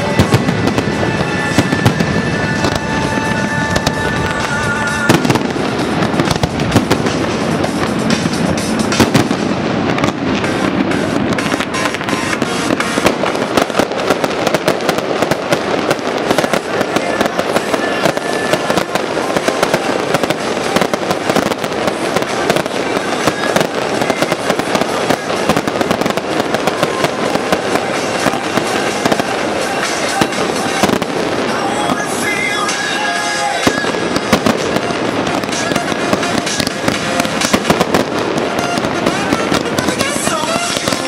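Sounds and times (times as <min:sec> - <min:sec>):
fireworks crackling and popping: 0:00.0 - 0:41.0
music playing: 0:00.0 - 0:41.0.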